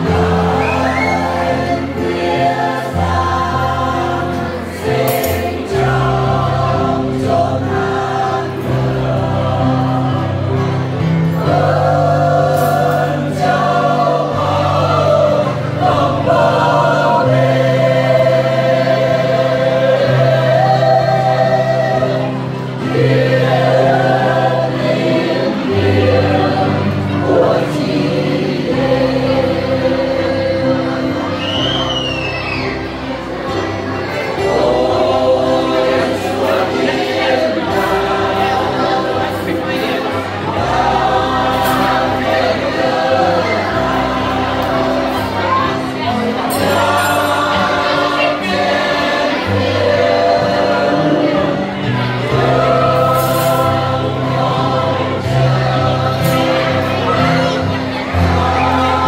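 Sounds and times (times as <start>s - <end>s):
acoustic guitar: 0.0s - 59.0s
mixed choir singing a carol: 0.0s - 59.0s.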